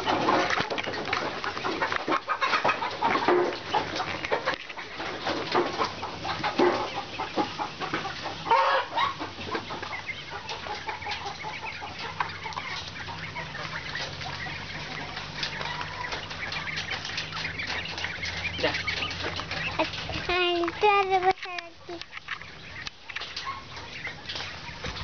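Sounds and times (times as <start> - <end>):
quail chirping and calling: 0.0 - 25.0.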